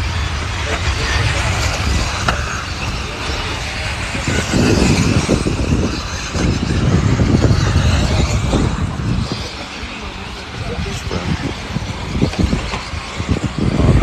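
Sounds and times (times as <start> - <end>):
rc buggies low rumble: 0.0 - 14.0.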